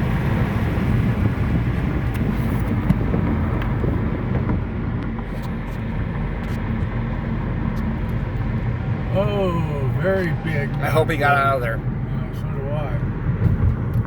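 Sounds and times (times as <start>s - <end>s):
car driving on freeway: 0.0s - 14.0s.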